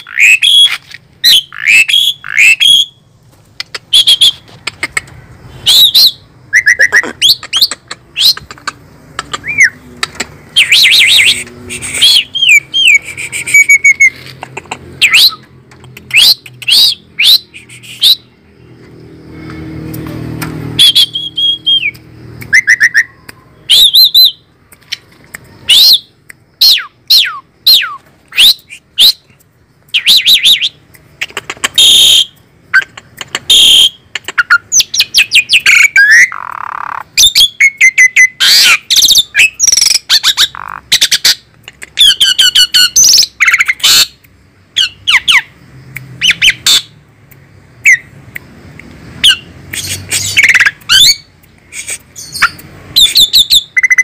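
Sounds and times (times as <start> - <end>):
starling whistling and chattering: 0.0 - 3.0, 3.6 - 5.0, 5.6 - 18.4, 20.8 - 44.2, 44.8 - 47.0, 49.2 - 54.0.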